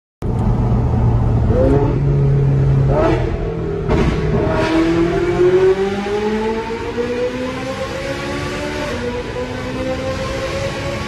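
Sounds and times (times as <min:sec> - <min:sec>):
sports car engine accelerating: 0:00.2 - 0:11.0.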